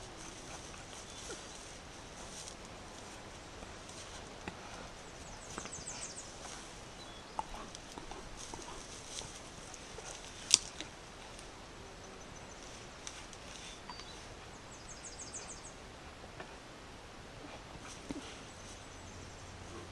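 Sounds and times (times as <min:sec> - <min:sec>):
faint steady hiss: 0:00.0 - 0:19.9.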